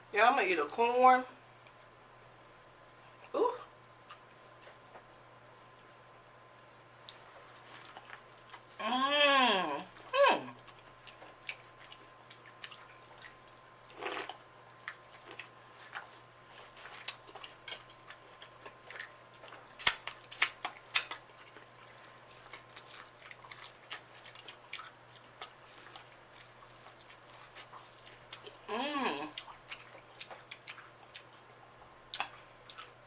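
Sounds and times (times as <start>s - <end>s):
wet chewing: 3.8s - 8.8s, 9.9s - 33.0s.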